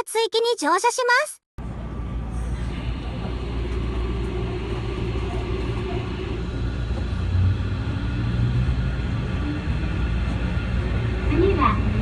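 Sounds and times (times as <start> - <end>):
subway train rumbling: 1.6 - 12.0.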